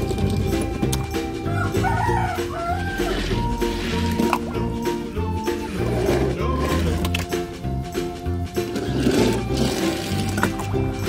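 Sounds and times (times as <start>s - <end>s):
music with a steady beat: 0.0s - 11.0s.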